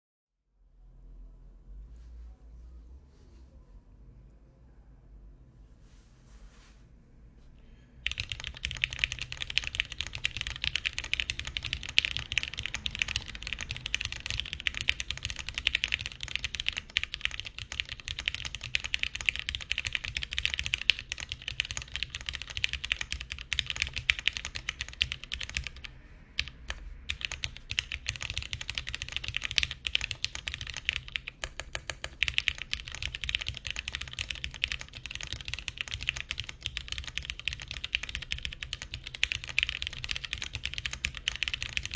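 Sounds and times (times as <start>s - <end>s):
fast mechanical keyboard typing: 8.0s - 41.9s.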